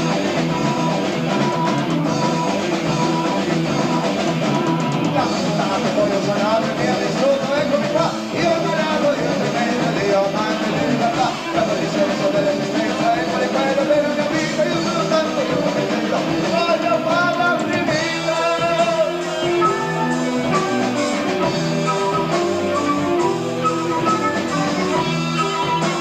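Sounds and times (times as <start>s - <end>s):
rock band playing live: 0.0s - 26.0s
wavering lead line: 0.0s - 26.0s.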